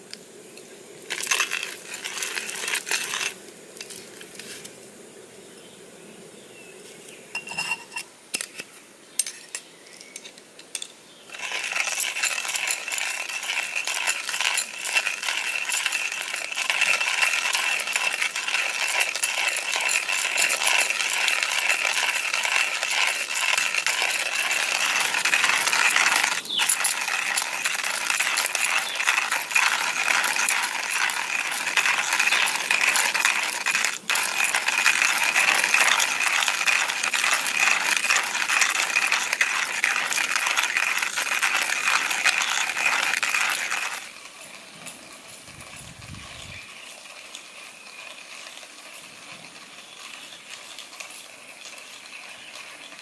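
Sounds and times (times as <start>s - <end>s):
coffee grinder crunching rattle: 1.0s - 4.7s, 8.4s - 53.0s.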